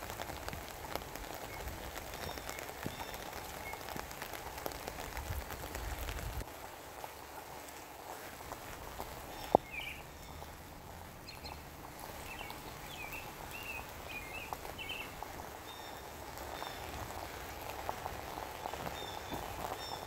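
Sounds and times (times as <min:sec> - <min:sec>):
light rain patter: 0:00.0 - 0:20.0.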